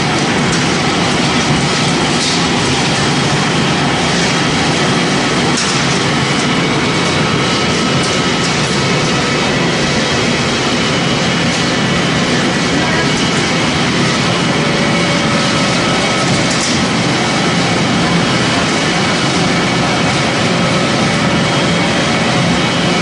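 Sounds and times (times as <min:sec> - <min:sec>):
pellet machine running: 0:00.0 - 0:23.0.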